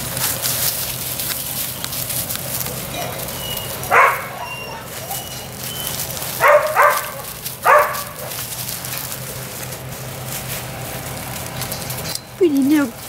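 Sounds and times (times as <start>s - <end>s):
puppies yipping: 0.0s - 13.0s
scuffling in mulch: 0.0s - 13.0s.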